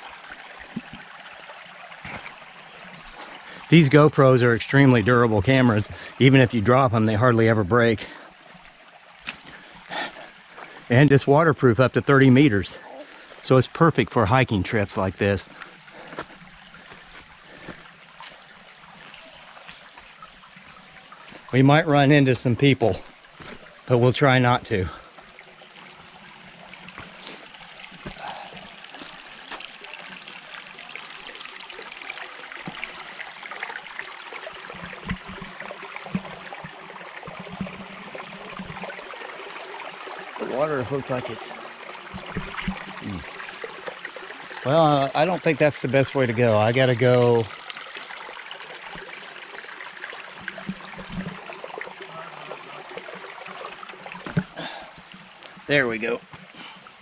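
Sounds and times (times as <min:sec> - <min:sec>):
creek water trickling over rocks: 0:00.0 - 0:57.0.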